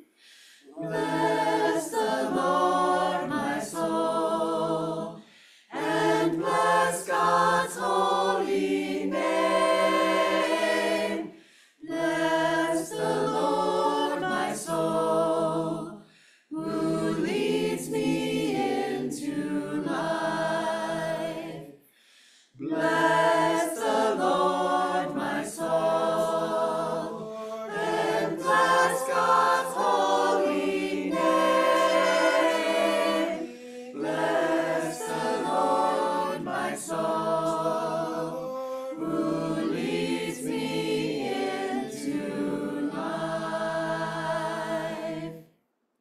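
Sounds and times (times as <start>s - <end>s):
choir singing a chant: 0.6s - 21.8s, 22.6s - 45.6s.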